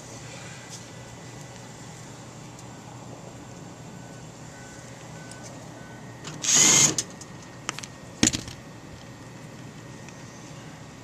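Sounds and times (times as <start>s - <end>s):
fan air rushing: 0.0s - 11.0s
heating unit humming: 0.0s - 11.0s.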